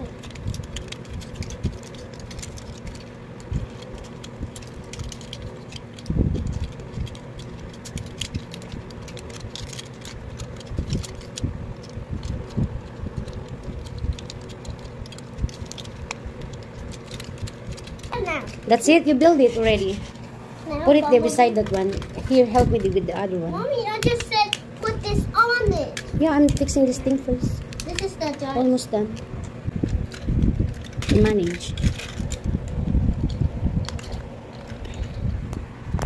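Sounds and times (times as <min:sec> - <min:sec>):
plastic toy clicking and rattling: 0:00.0 - 0:20.0, 0:21.2 - 0:23.3, 0:23.9 - 0:35.2.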